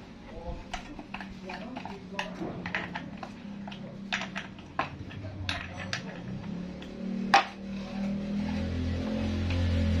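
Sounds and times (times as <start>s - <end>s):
metal tool clinking and scraping: 0.6s - 9.8s.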